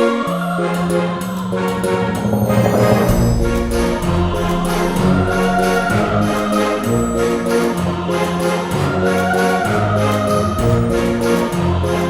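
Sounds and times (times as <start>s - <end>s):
orchestral music with held chords: 0.0s - 12.0s.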